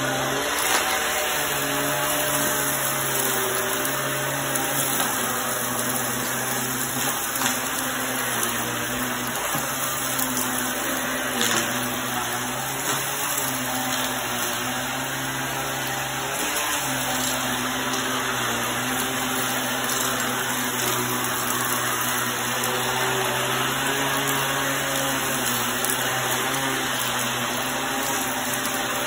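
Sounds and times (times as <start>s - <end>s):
vacuum cleaner motor hum: 0.0s - 29.0s.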